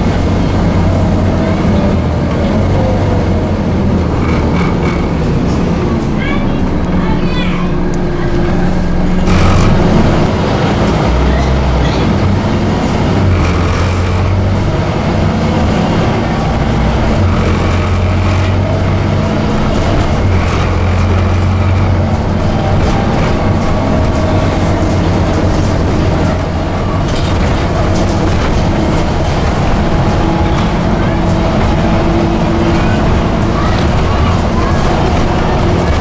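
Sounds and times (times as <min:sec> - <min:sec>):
bus engine droning: 0:00.0 - 0:36.0
road noise: 0:00.0 - 0:36.0.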